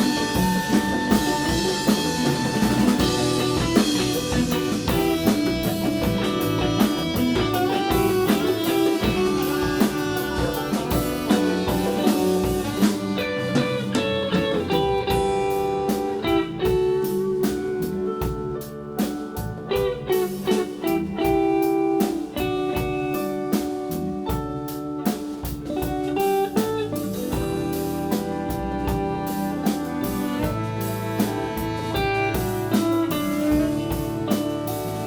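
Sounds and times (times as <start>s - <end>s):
electric guitar: 0.0s - 35.0s
live blues band: 0.0s - 35.0s.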